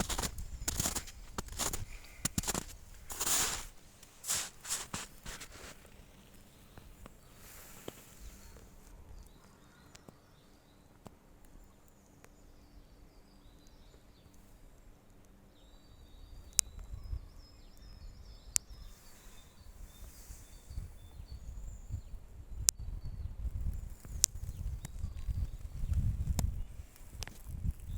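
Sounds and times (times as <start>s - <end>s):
small songbirds chirping: 0.0s - 27.9s.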